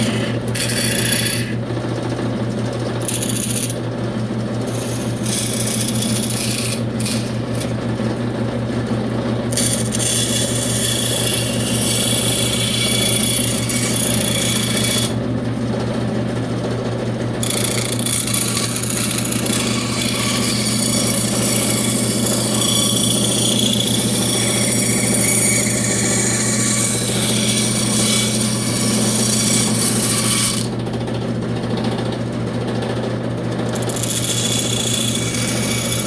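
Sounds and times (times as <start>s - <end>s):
saw cutting plywood: 0.0s - 15.2s, 17.3s - 31.0s, 33.1s - 36.0s.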